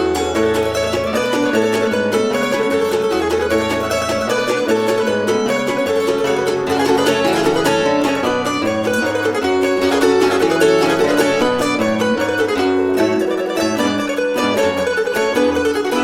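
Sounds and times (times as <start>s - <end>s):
plucked zither melody: 0.0s - 16.0s.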